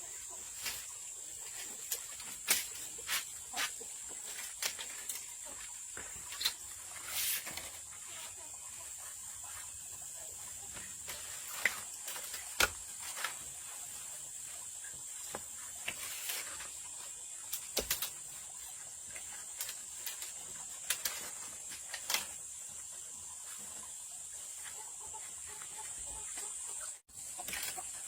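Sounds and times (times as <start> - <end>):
steady high-pitched hiss: 0.0 - 28.0.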